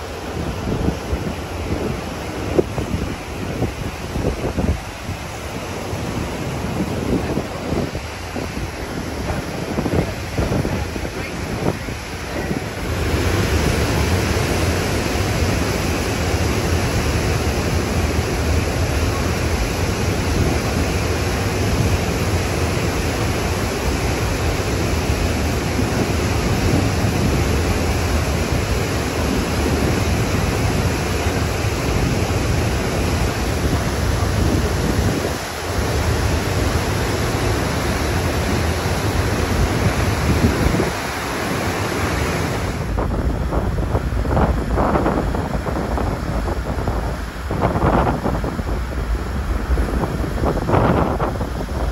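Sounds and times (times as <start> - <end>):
ship wake churning: 0.0 - 51.9
wind buffeting microphone: 0.0 - 51.9.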